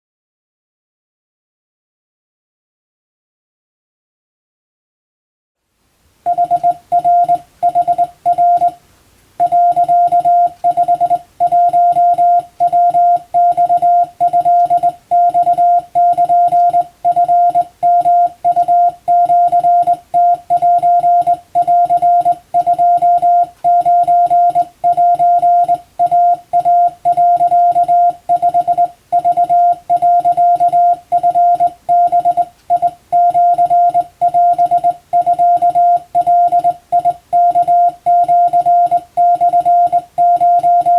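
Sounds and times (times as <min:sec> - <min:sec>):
morse code beeping tone: 0:06.3 - 0:08.8, 0:09.4 - 0:40.9.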